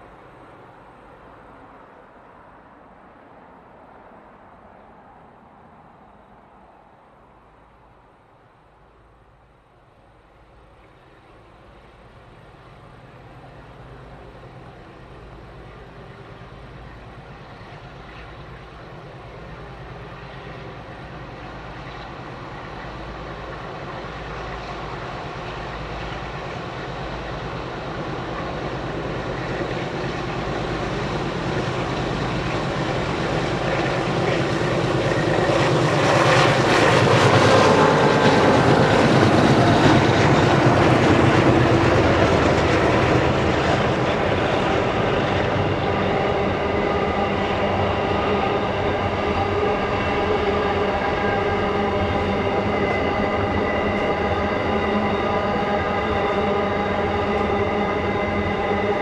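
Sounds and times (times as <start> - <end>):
diesel locomotives working hard: 8.6 - 59.0.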